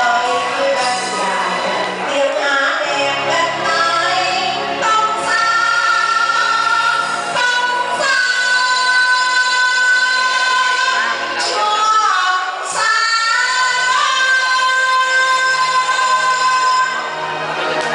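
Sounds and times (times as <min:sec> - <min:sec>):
woman singing into a microphone: 0:00.0 - 0:17.4
musical accompaniment: 0:00.0 - 0:17.9.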